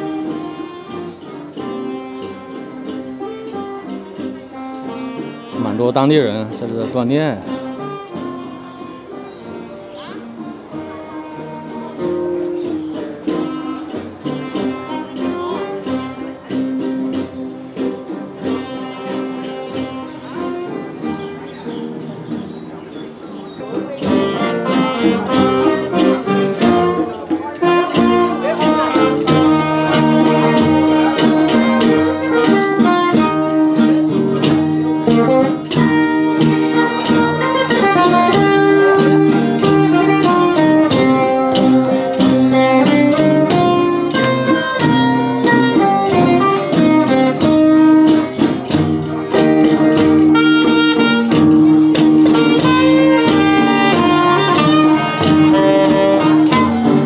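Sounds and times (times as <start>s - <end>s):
acoustic guitars: 0.0s - 57.0s
violin: 0.0s - 57.0s.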